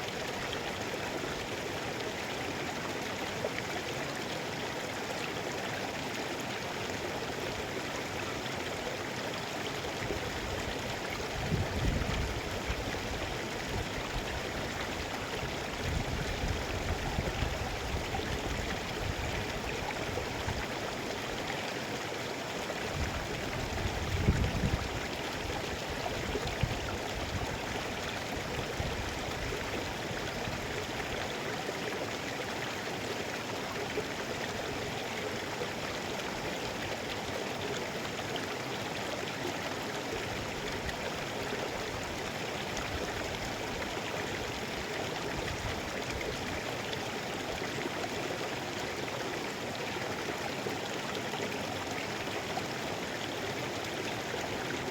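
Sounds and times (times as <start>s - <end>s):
river flowing over rocks: 0.0s - 54.9s.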